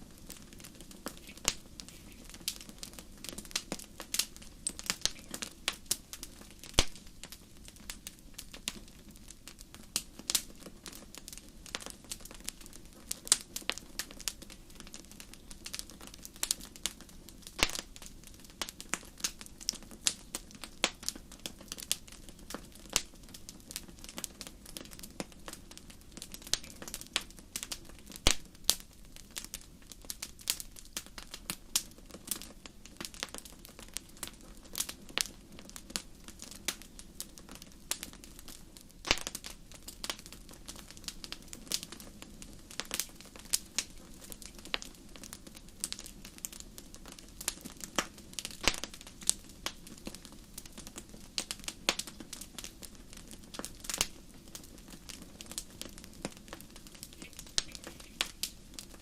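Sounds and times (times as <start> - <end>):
low rush of flame: 0.0 - 59.0
wood fire crackling: 0.0 - 59.0.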